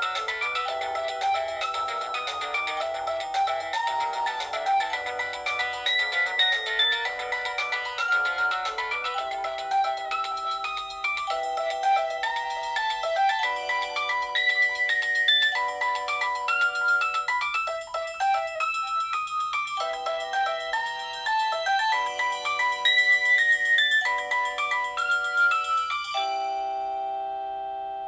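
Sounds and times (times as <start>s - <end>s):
bell-like ringtone melody: 0.0s - 28.0s.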